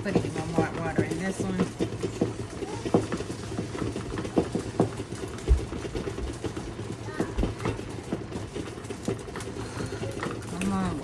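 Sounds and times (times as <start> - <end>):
jars knocking and rattling: 0.0 - 11.0
water boiling hard: 0.0 - 11.0.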